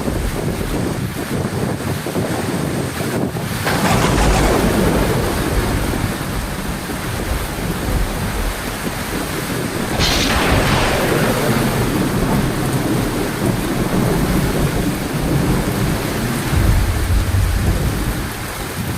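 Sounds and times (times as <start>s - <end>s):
heavy rain pouring: 0.0s - 18.9s
thunder crashing: 3.3s - 18.9s.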